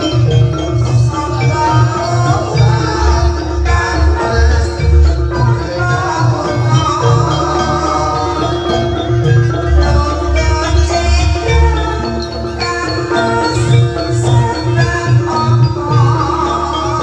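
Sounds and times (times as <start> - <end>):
pulsing drum beat: 0.0 - 17.0
ringing metallophone melody: 0.0 - 17.0.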